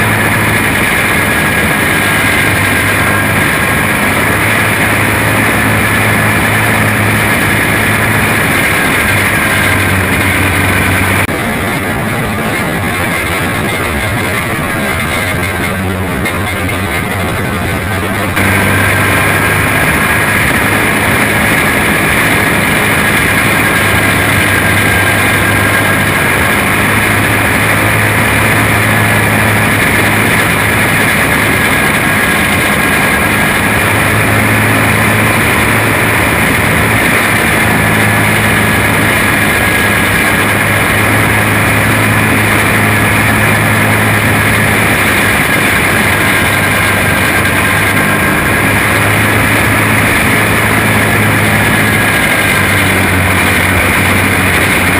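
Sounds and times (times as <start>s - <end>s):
race car engine running: 0.0s - 54.9s.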